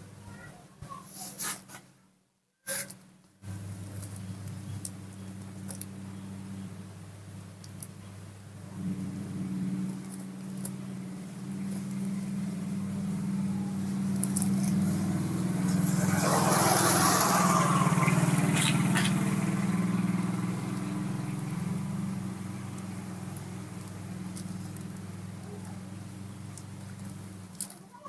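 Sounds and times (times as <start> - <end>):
steady low hum: 3.4 - 27.7
motor vehicle passing by: 3.4 - 28.0.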